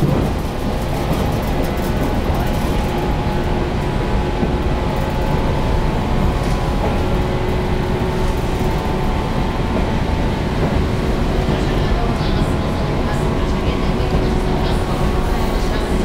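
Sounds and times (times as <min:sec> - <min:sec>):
train motor hum: 0:00.0 - 0:16.0
wheels rumbling on rail: 0:00.0 - 0:16.0.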